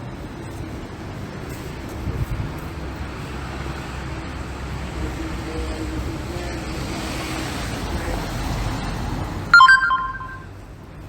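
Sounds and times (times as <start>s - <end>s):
passing cars rumble: 0.8s - 11.0s.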